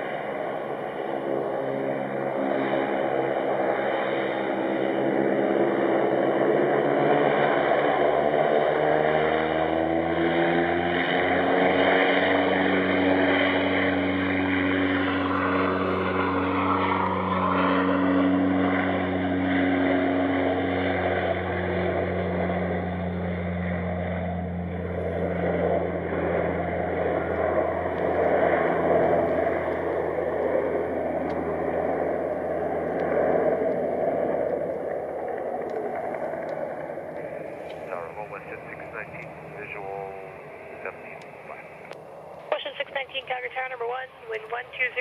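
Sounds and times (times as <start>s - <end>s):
turboprop engines at takeoff power: 0.0s - 45.0s.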